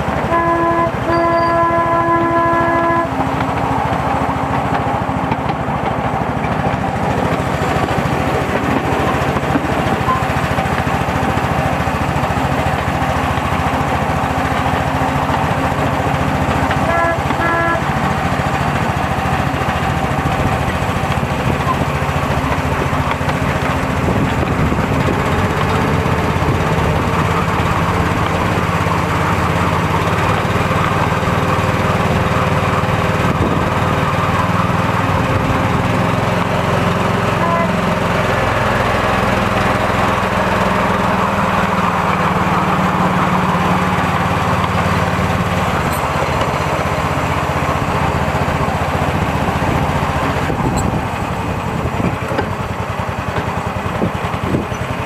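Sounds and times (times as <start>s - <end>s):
small locomotive engine running: 0.0s - 55.0s.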